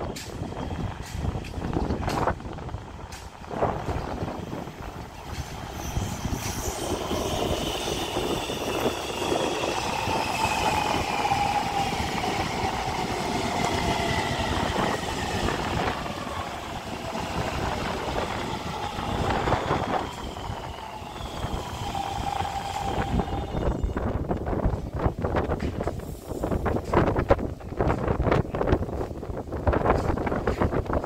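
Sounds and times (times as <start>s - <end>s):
train inverter whine: 0.0s - 27.5s
train wheels rumbling on rails: 0.0s - 31.0s.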